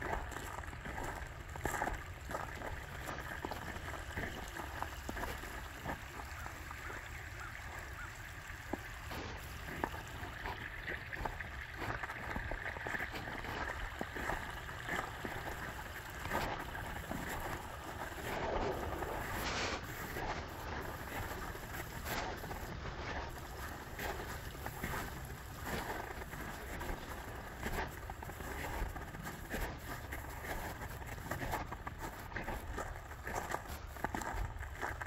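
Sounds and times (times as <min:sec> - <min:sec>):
footsteps crunching on snow: 0:00.0 - 0:35.0.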